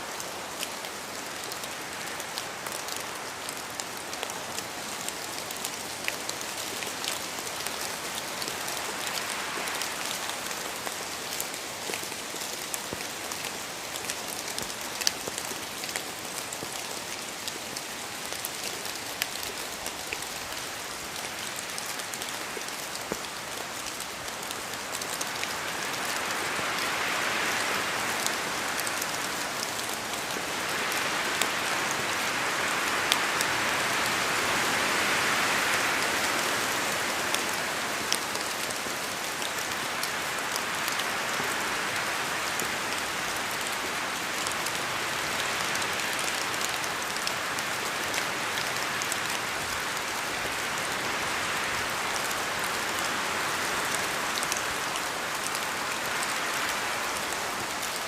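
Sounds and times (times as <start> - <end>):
continuous rain rush: 0.0 - 58.0
raindrops hitting leaves: 0.0 - 58.0.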